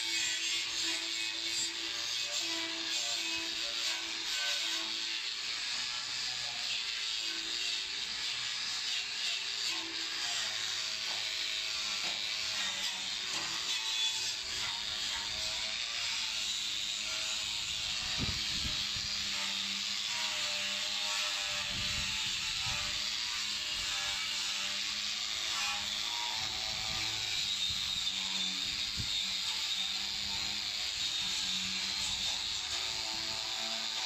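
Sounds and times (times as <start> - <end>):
angle grinder on metal: 0.0 - 34.0.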